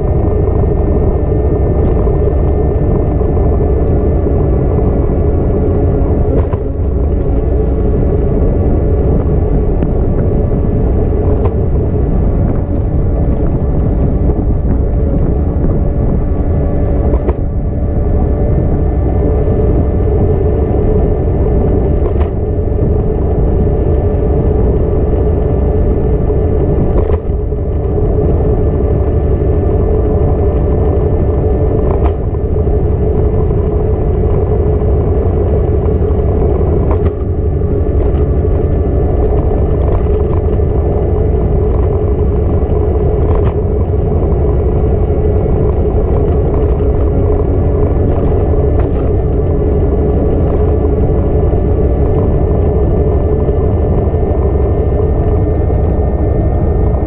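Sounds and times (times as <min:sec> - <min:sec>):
bike rolling on pavement: 0:00.0 - 0:57.0
wind rumble: 0:00.0 - 0:57.0
sharp clicks and rattles: 0:00.5 - 0:16.2, 0:18.9 - 0:56.1.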